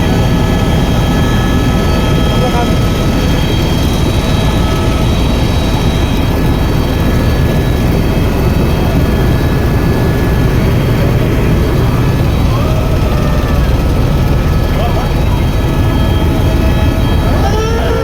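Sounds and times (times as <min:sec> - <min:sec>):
helicopter rotor chopping: 0:00.0 - 0:18.0
turbine engine whine: 0:00.0 - 0:18.0.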